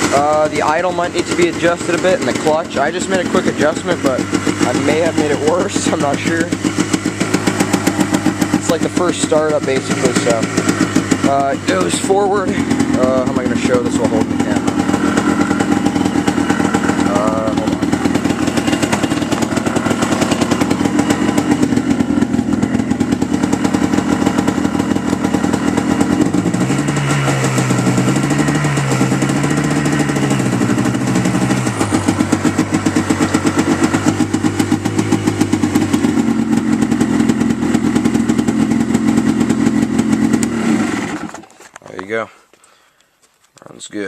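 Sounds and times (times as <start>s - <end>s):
two-stroke engine running: 0.0s - 41.8s.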